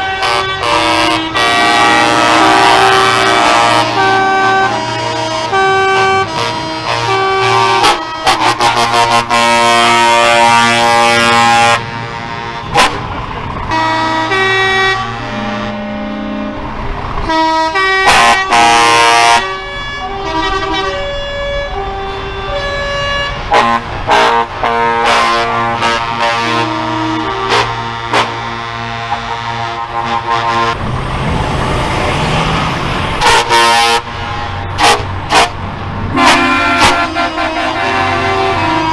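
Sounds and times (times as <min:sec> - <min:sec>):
truck air horns blasting: 0:00.0 - 0:38.9.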